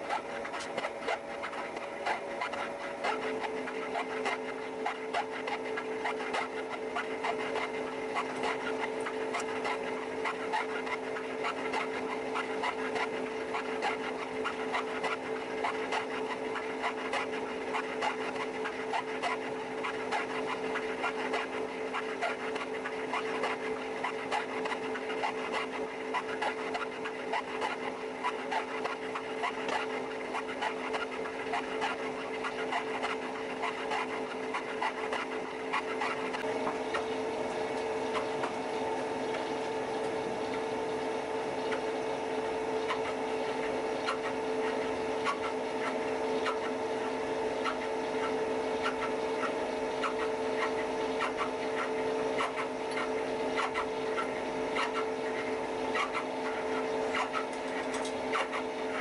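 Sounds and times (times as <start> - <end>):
machine drive hum: 0.0 - 59.0.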